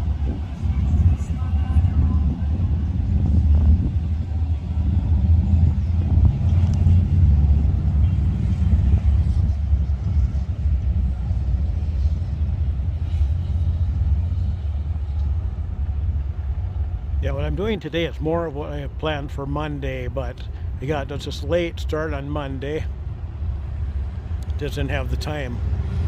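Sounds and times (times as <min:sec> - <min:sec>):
motorcycle engines rumbling: 0:00.0 - 0:26.0.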